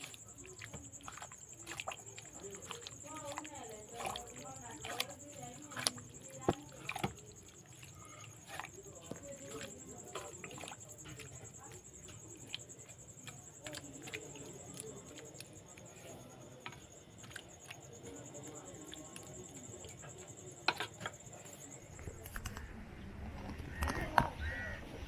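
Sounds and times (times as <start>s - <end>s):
insect trilling: 0.0s - 22.7s.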